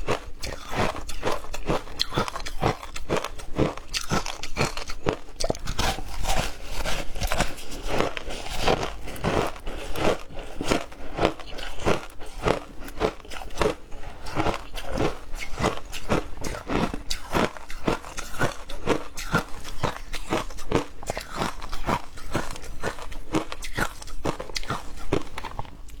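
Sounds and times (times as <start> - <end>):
ice being chewed: 0.0 - 26.0.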